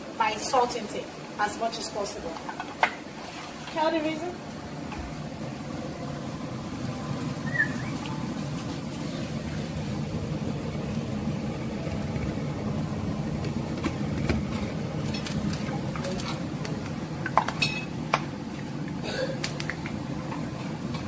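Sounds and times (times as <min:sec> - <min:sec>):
food frying in hot oil: 0:00.0 - 0:21.0.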